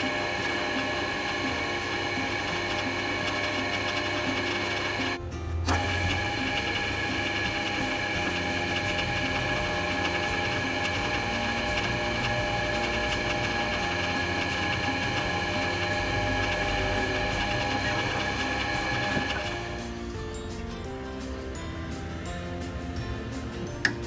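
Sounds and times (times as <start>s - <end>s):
power tool whining: 0.0s - 19.9s.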